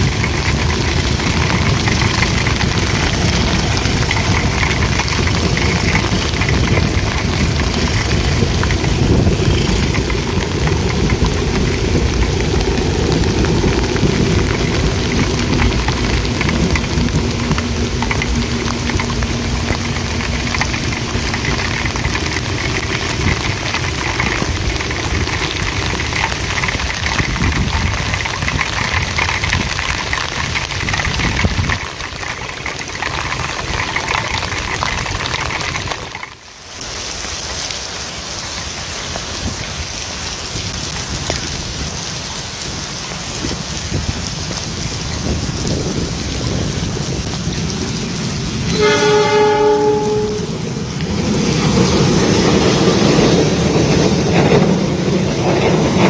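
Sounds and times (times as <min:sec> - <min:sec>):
heavy rain pouring: 0:00.0 - 0:56.0
train coaches rumbling past: 0:00.0 - 0:56.0.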